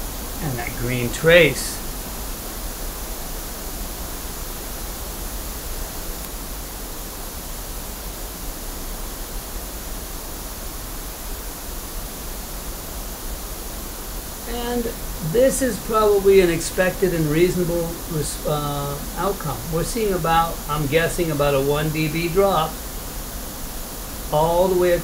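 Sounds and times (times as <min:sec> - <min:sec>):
pink noise hiss from loudspeaker: 0:00.0 - 0:25.0.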